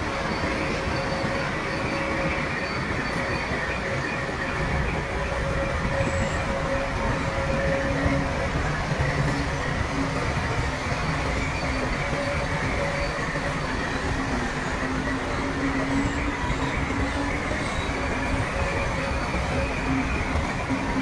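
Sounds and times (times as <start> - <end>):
steel tracks clattering: 0.0 - 21.0
thin wavering squeals: 0.0 - 21.0.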